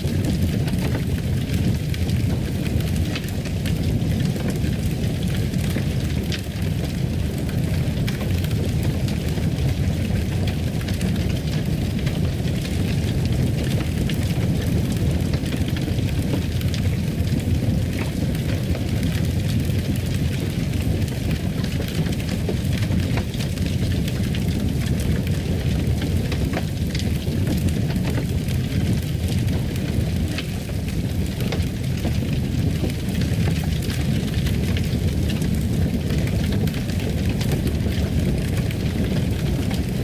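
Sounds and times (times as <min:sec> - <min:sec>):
fireplace fire crackling: 0:00.0 - 0:40.0.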